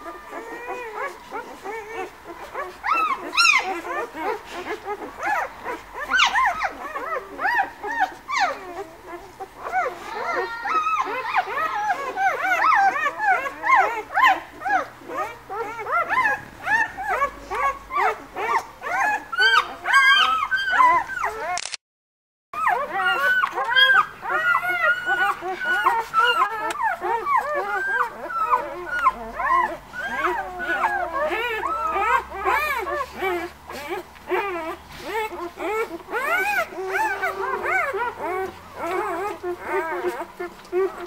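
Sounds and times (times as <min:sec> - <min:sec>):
puppies squeaking and whimpering: 0:00.0 - 0:21.6, 0:22.6 - 0:41.0.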